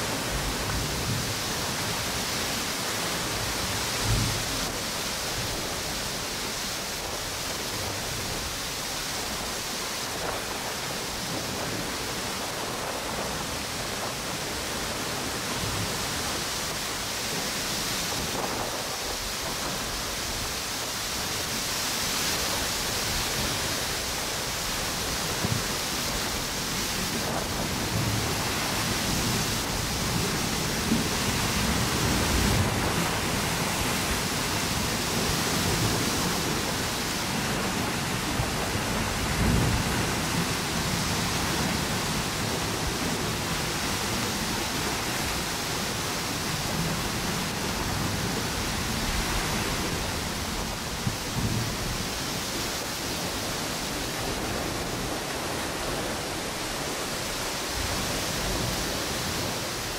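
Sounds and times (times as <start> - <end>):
ocean waves washing ashore: 0.0 - 59.9.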